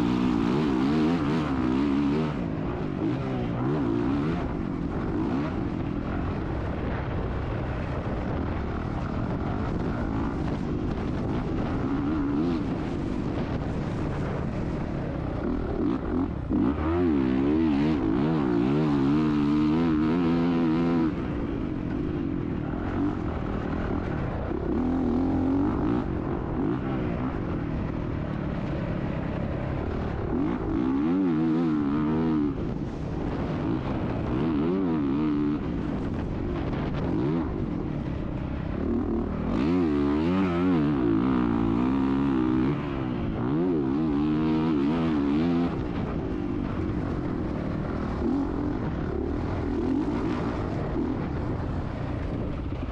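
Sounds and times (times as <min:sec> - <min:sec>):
motorcycle engine ridden hard: 0:00.0 - 0:52.9.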